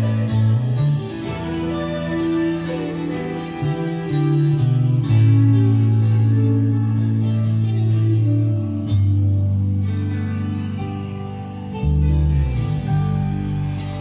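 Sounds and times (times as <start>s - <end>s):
guitar-led instrumental music: 0.0s - 14.0s
held bass notes: 0.0s - 14.0s.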